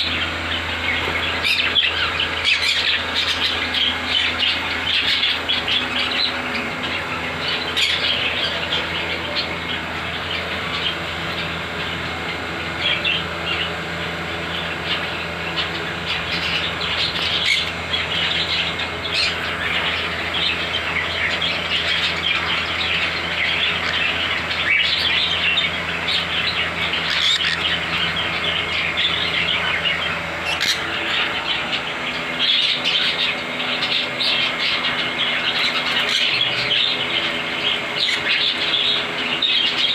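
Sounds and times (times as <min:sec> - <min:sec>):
parrots chirping and chattering: 0:00.0 - 0:39.9.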